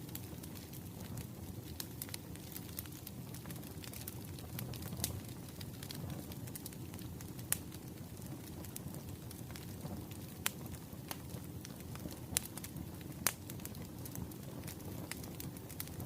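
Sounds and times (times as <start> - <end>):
fire crackles and pops: 0.0 - 16.0
wood fire rumbling: 0.0 - 16.0.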